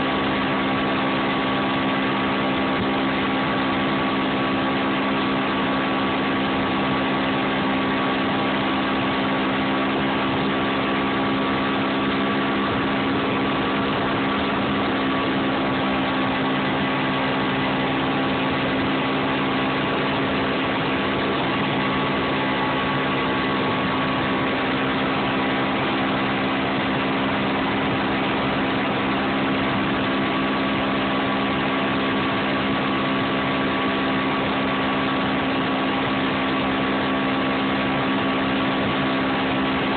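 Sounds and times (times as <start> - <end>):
outboard motor running: 0.0 - 39.9
water rushing: 0.0 - 39.9.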